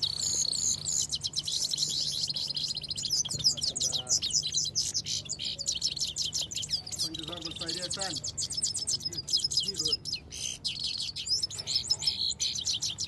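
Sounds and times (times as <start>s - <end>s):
songbirds twittering: 0.0s - 13.0s.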